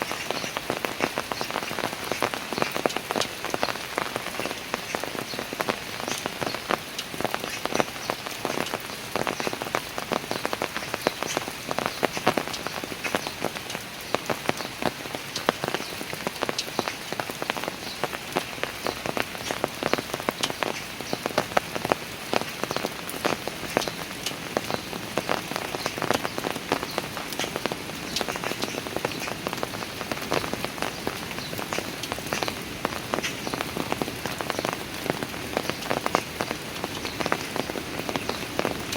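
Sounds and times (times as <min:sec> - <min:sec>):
constant rain noise: 0:00.0 - 0:38.9
rain drops pattering on stairs: 0:00.0 - 0:38.9.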